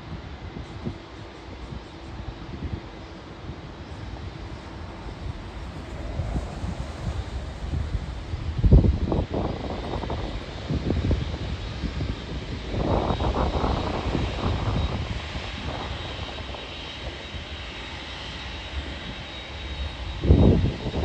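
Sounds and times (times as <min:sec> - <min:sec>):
high jet whine: 0:00.0 - 0:21.0
jet engines rumbling: 0:00.0 - 0:21.0.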